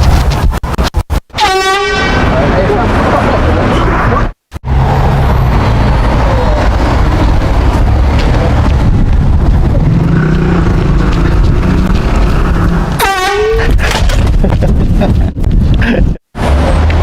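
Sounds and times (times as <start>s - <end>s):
vehicle rumble: 2.1s - 17.0s.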